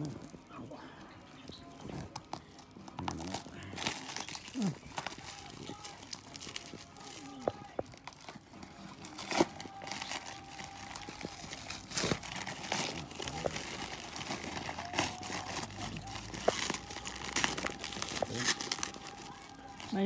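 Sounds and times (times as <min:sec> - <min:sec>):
packaging crinkling and tearing: 0:01.5 - 0:20.0.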